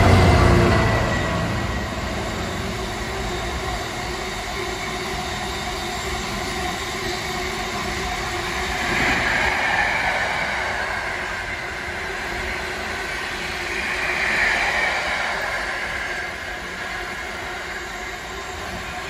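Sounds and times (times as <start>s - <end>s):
diesel locomotive engine: 0.0s - 19.0s.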